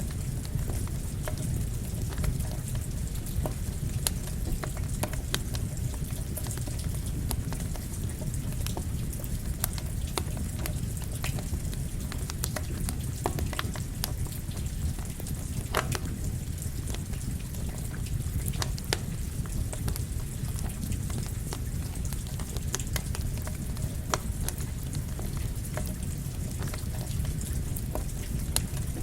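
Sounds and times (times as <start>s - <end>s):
campfire crackling and popping: 0.0s - 29.0s
rain hiss: 0.0s - 29.0s.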